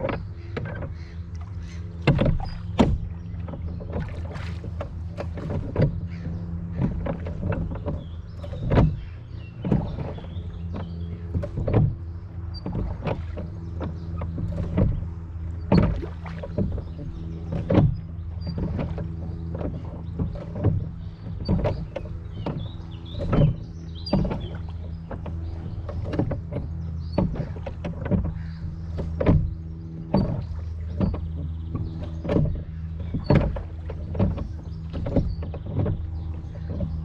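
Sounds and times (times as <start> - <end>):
oars knocking and splashing: 0.0 - 37.0
steady low hum: 0.0 - 37.0.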